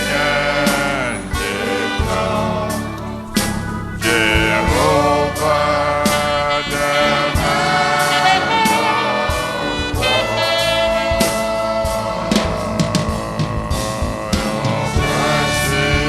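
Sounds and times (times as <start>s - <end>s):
voices singing gospel music: 0.0s - 16.0s.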